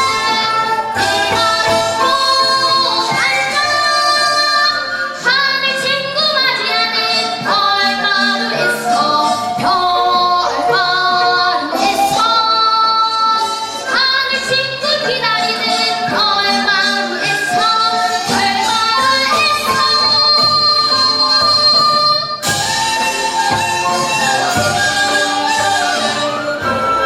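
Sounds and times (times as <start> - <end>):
children's choir singing: 0.0 - 27.0.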